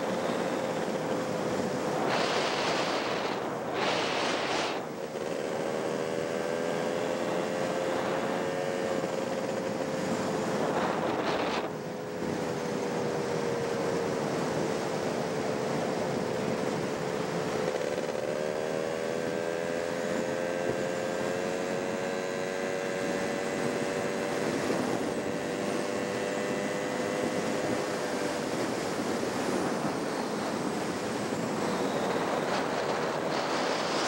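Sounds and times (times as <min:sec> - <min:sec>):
engine hum: 0:00.0 - 0:34.0
wind and road noise: 0:00.0 - 0:34.0.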